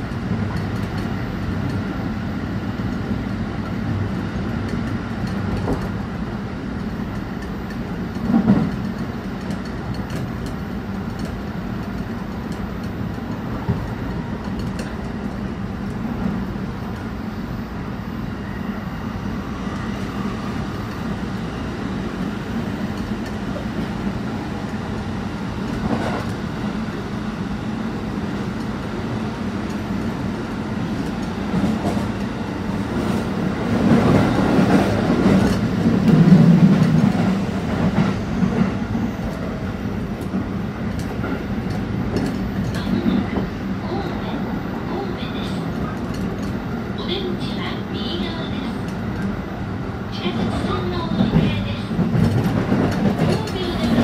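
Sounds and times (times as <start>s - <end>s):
passing train: 0.0s - 54.0s
train wheels on rail rumbling: 0.0s - 54.0s.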